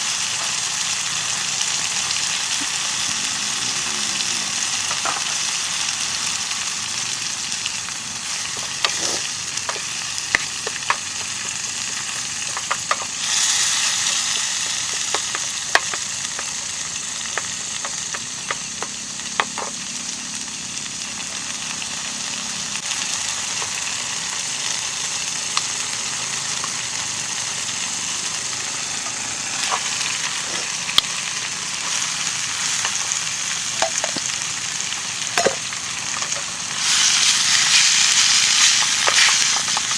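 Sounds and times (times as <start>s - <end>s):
food sizzling in oil: 0.0s - 39.9s.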